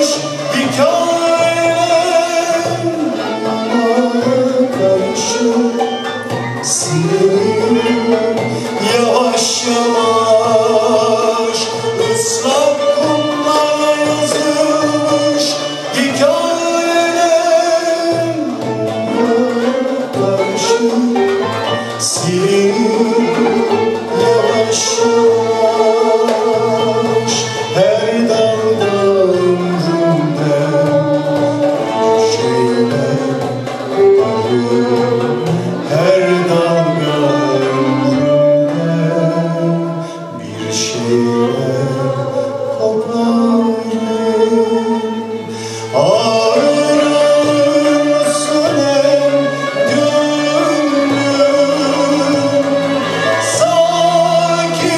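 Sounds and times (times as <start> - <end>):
man singing: 0.0 - 54.9
violins playing slow melody: 0.0 - 54.9.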